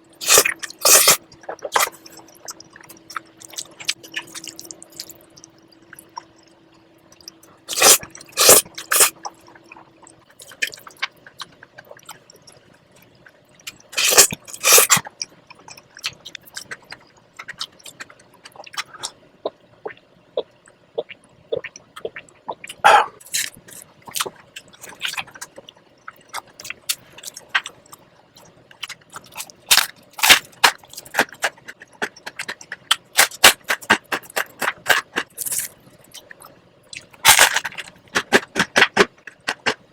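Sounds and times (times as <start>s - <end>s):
wet chewing: 0.2s - 6.3s, 7.1s - 39.8s.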